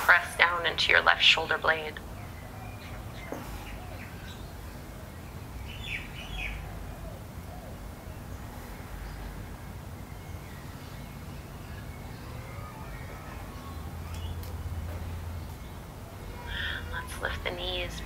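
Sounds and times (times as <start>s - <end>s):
garden birds chirping: 0.0s - 18.0s.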